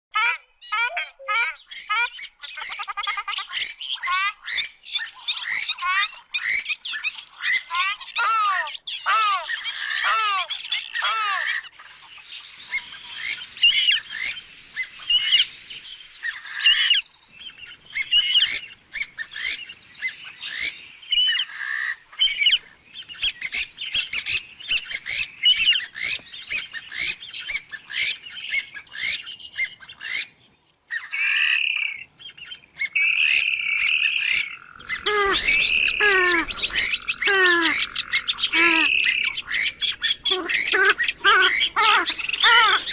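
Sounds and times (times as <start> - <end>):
bird calling: 0.1 - 42.9.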